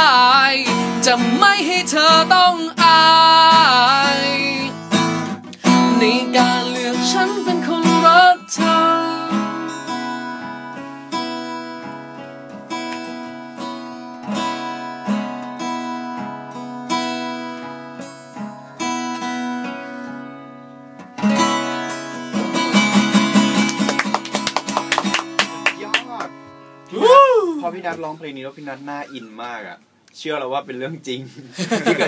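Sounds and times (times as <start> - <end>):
acoustic guitar chords and strumming: 0.0 - 28.1.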